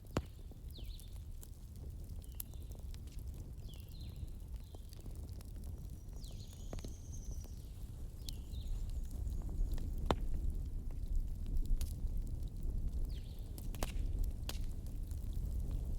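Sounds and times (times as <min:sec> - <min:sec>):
bonfire rumble: 0:00.0 - 0:15.9
burning wood crackling: 0:00.0 - 0:15.9.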